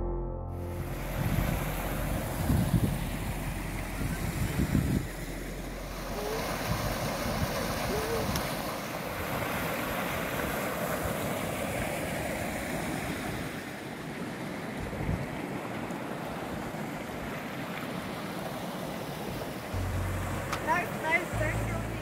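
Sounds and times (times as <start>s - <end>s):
wind buffeting microphone: 0.6s - 18.2s
creek water rushing over rocks: 0.8s - 22.0s.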